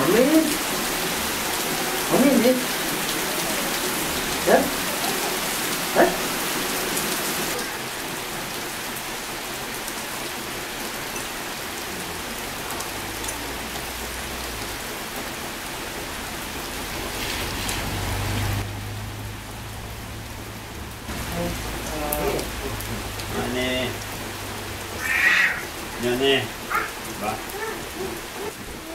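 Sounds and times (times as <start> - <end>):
heavy rain pouring: 0.0 - 28.9
rain on leaves and paving: 0.0 - 28.9.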